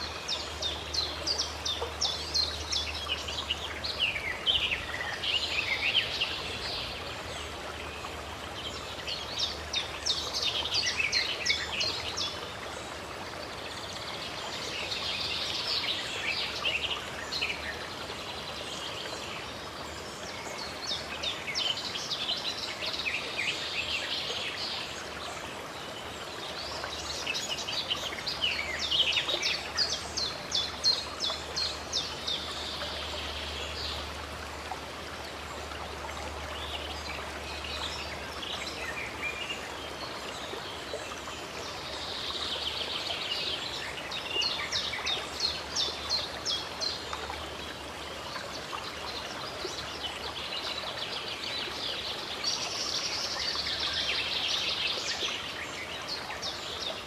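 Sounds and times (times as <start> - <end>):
songbirds singing: 0.0 - 57.0
stream water running: 0.0 - 57.0.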